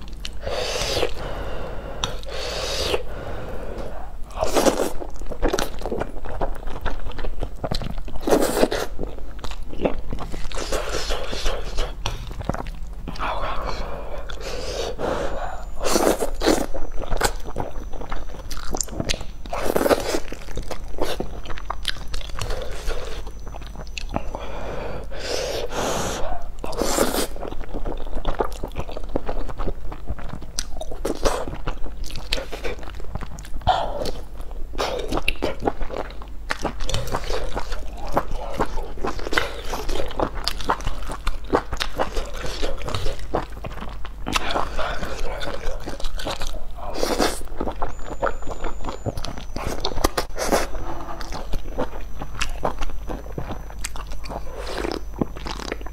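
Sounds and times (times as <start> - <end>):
mouth chewing: 2.0 - 24.5, 25.2 - 55.9.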